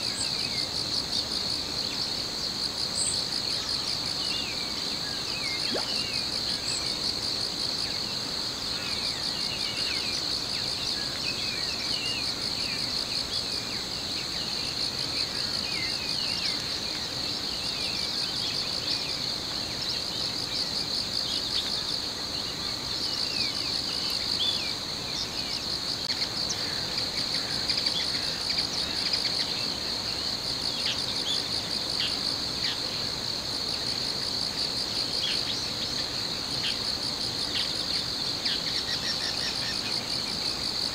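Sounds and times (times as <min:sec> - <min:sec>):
insect chirps: 0:00.0 - 0:40.9
insects trilling: 0:00.0 - 0:40.9.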